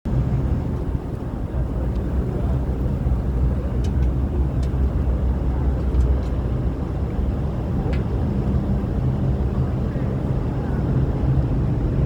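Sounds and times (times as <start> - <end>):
ferry engines rumbling: 0.1 - 12.0.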